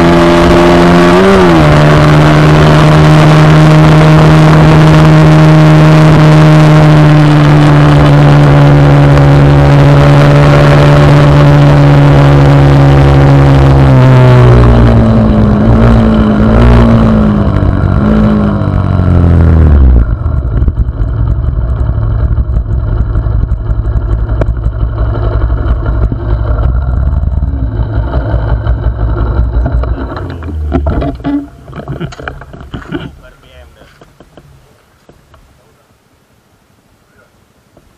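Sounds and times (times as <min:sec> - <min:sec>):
small motorcycle engine revving: 0:00.0 - 0:33.4
low riding rumble: 0:00.0 - 0:37.9.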